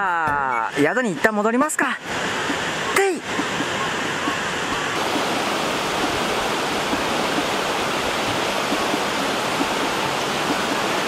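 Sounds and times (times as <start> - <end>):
river running over rocks: 0.5 - 11.0
waterfall rushing: 0.6 - 11.0.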